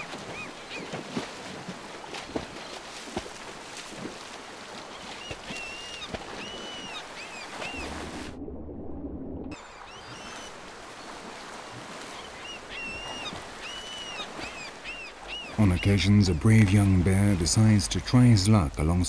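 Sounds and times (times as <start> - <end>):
gulls calling: 0.0 - 8.2, 9.5 - 19.0
river water rushing and splashing: 0.0 - 8.4, 9.5 - 19.0.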